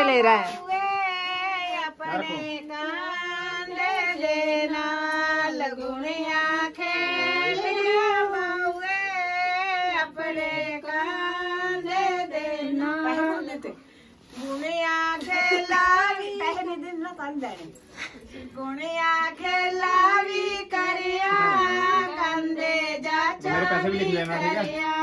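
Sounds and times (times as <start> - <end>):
woman singing unaccompanied: 0.0 - 17.6, 18.4 - 25.0.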